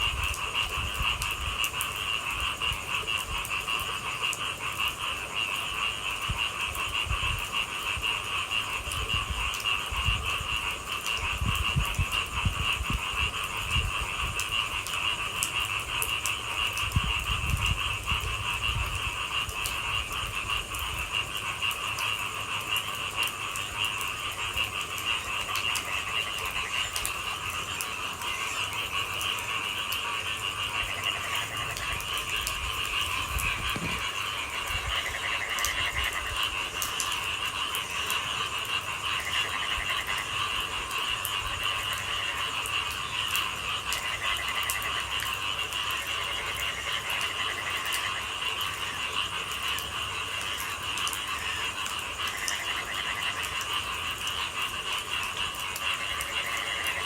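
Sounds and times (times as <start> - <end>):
frogs calling: 0.0 - 57.0
light rain pattering and dripping: 0.0 - 57.0.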